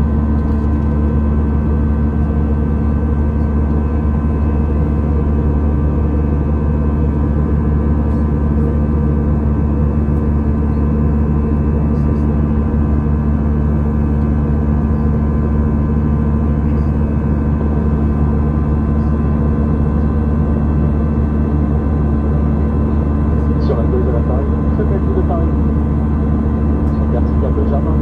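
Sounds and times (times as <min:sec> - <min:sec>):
airliner cabin engine drone: 0:00.0 - 0:28.0.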